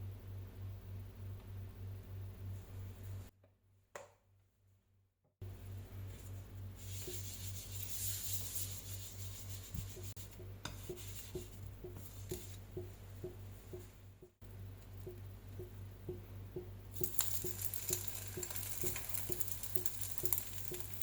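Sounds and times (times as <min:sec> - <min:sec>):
constant low hum: 0:00.0 - 0:03.3, 0:05.4 - 0:21.0.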